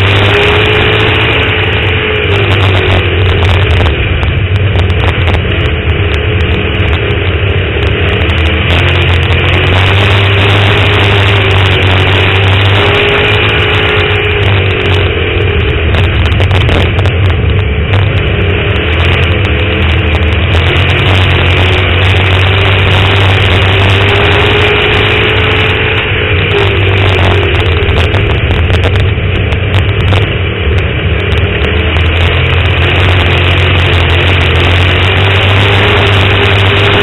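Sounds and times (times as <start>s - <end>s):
race car engine running hard: 0.0s - 37.0s.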